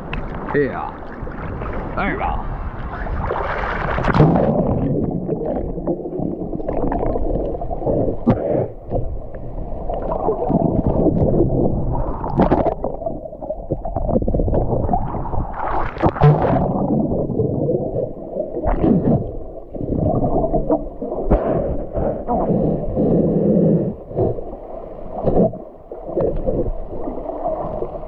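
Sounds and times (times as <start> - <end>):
water splashes: 0.0 - 22.8
muffled underwater sloshing: 0.0 - 28.0.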